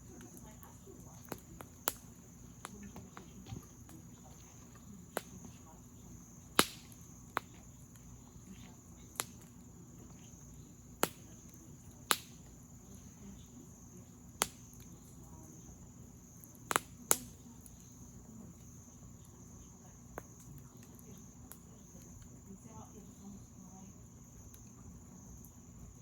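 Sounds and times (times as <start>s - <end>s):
campfire wood popping: 0.0s - 26.0s
crickets chirring: 0.0s - 26.0s.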